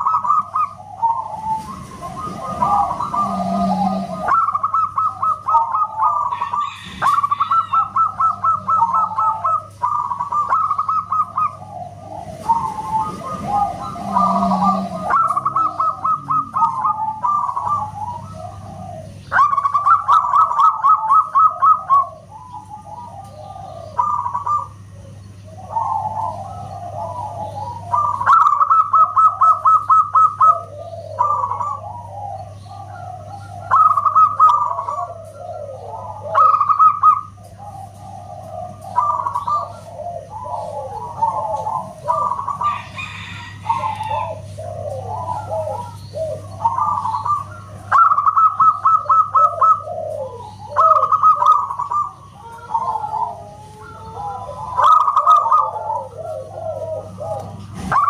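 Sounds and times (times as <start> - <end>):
doves cooing: 0.0 - 58.0.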